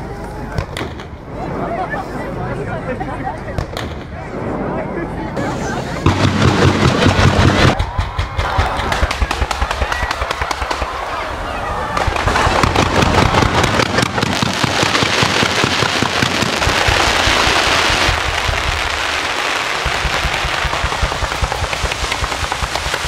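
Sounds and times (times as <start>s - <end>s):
fireworks bangs and crackle: 0.2s - 2.2s, 3.5s - 23.0s.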